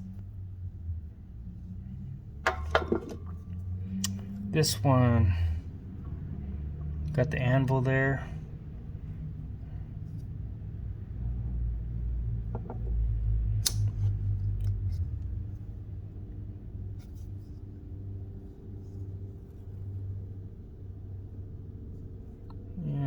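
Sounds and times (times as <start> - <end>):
low rumble of handling: 0.0 - 23.0.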